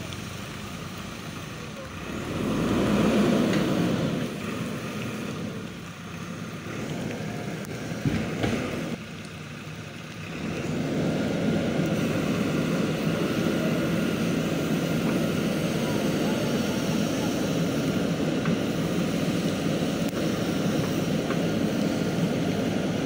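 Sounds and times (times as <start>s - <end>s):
backhoe diesel engine running: 0.0s - 23.0s.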